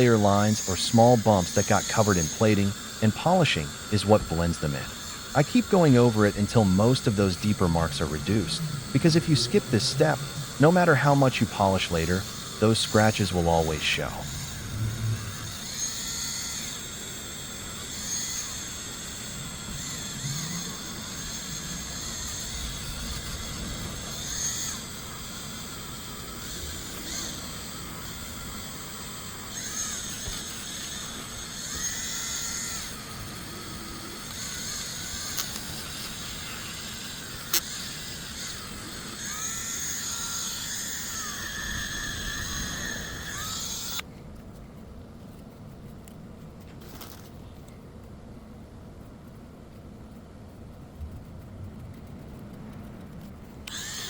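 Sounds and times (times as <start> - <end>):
rotary tool whining: 0.0 - 54.0.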